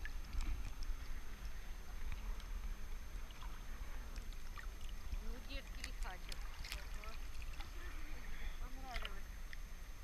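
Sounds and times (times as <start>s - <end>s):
small splashes: 0.0s - 9.6s
sea water lapping: 0.0s - 10.0s.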